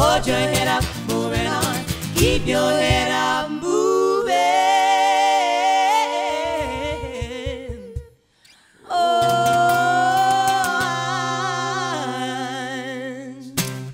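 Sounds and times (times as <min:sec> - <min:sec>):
women singing in harmony: 0:00.0 - 0:08.2, 0:08.8 - 0:13.6.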